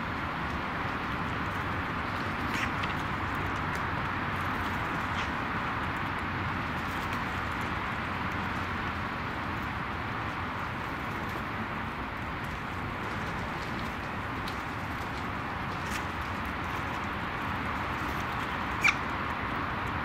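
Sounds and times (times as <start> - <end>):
even outdoor hiss: 0.0 - 20.0.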